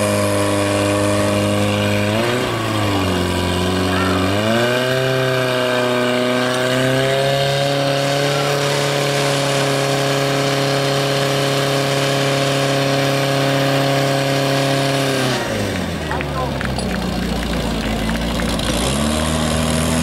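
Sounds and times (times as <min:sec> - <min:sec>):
fire pump engine running: 0:00.0 - 0:20.0
nozzles spraying water: 0:00.0 - 0:20.0.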